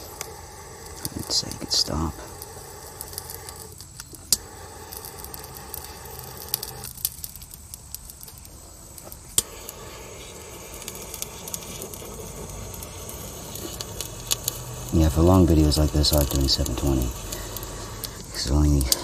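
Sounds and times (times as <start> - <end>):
sharp crackling clicks: 0.0 - 19.0
torch flame hissing: 0.0 - 19.0.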